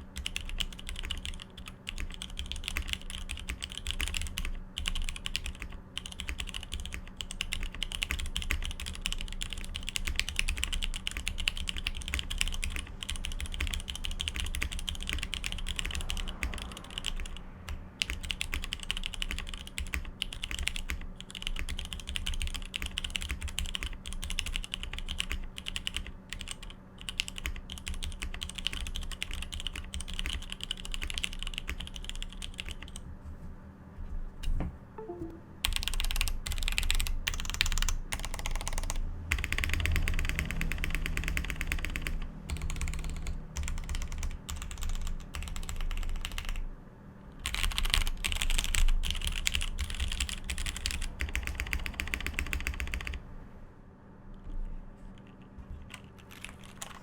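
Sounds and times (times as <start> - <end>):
mechanical keyboard typing: 0.0 - 33.0, 35.0 - 46.6, 47.4 - 53.2, 55.2 - 57.0.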